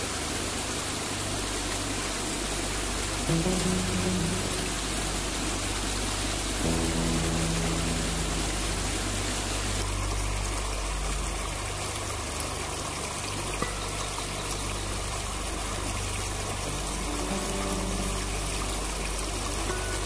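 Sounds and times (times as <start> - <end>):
stream rushing over rocks: 0.0 - 20.0
low hum: 1.9 - 20.0.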